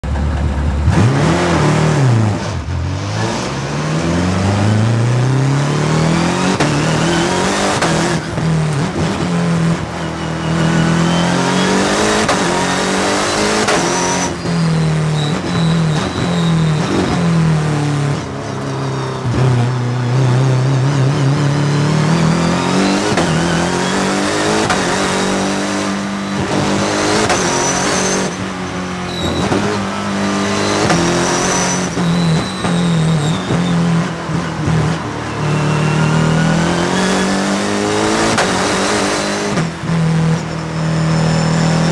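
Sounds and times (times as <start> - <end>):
race car engine accelerating: 0.0 - 41.9.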